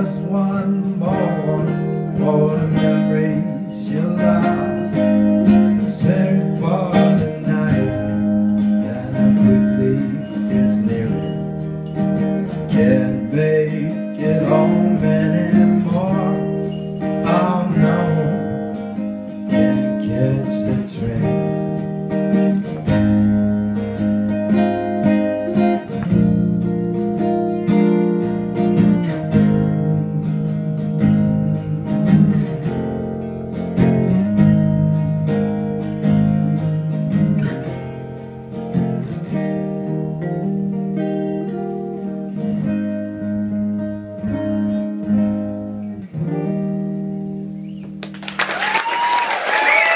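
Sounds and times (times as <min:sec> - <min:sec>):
guitar strumming and picking: 0:00.0 - 0:48.6.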